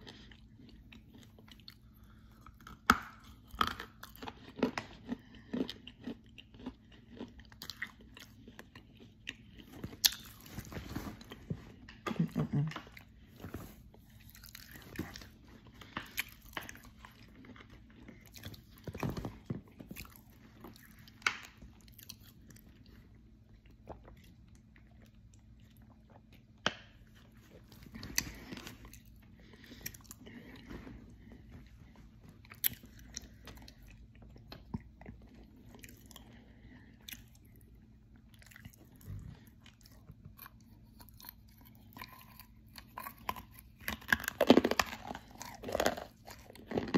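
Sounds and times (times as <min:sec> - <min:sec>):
chewing and crunching clay: 0:00.0 - 0:46.9.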